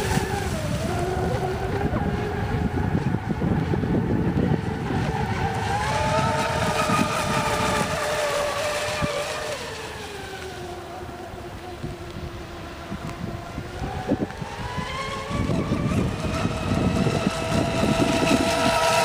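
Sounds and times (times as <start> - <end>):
rc boat motor whining: 0.0 - 19.0
wind rumble on microphone: 0.0 - 19.0.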